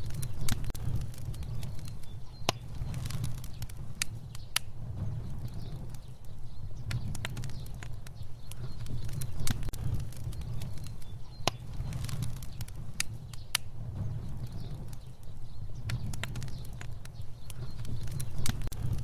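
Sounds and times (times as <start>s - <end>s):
fire burning with crackles: 0.0s - 19.0s.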